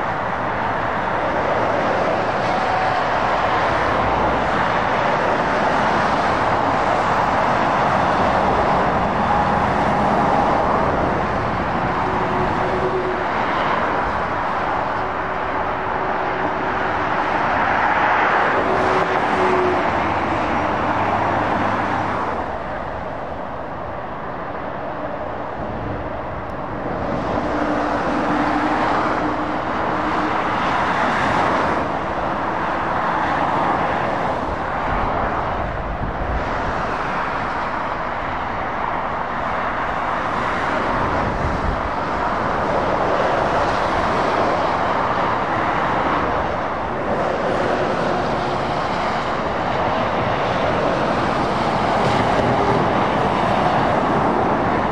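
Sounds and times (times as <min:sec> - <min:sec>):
diesel engines: 0:00.0 - 0:54.9
lorries and cars passing: 0:00.0 - 0:54.9.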